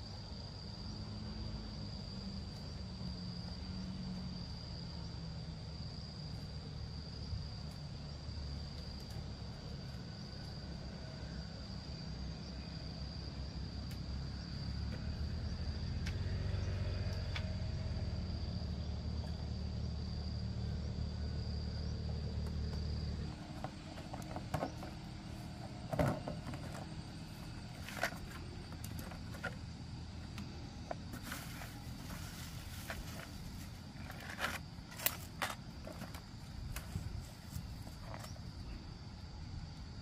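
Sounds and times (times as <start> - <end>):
high thin insect whine: 0.0 - 40.0.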